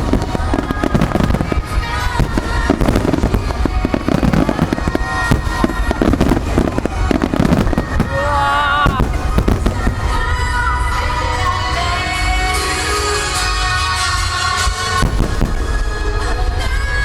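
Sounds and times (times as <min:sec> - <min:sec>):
fireworks bursting: 0:00.0 - 0:17.0
loud music: 0:00.0 - 0:17.0.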